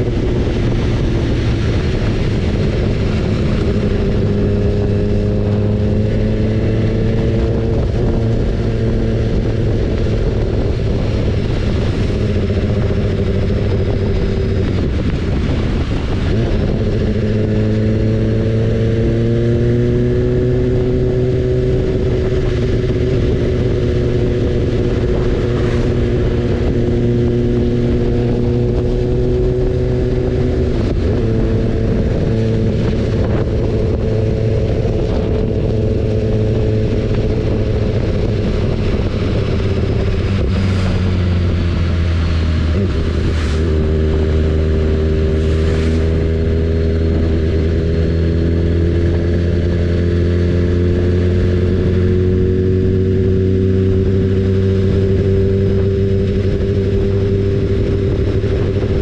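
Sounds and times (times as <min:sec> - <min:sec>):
motorcycle engine running: 0:00.0 - 0:59.0
wind noise: 0:00.0 - 0:59.0.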